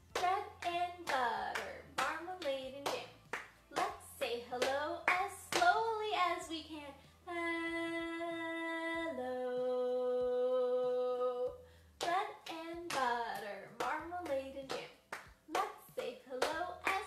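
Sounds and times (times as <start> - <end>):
woman singing unaccompanied: 0.1 - 17.0.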